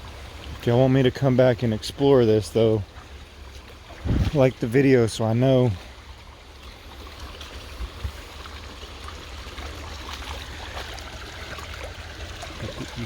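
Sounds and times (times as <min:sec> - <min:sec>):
creek water trickling: 0:00.0 - 0:13.0.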